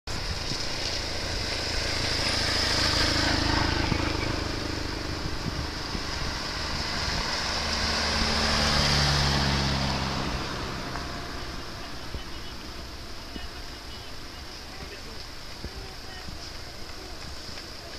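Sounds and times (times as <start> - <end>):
tyre noise on damp road: 0.0 - 17.9
car driving slowly past: 0.1 - 17.9
motorcycle passing: 0.2 - 17.9.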